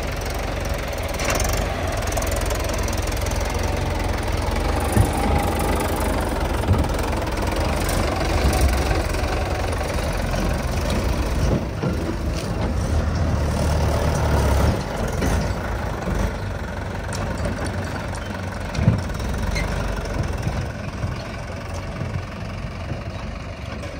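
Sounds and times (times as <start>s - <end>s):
diesel tractor engine running: 0.0s - 23.9s.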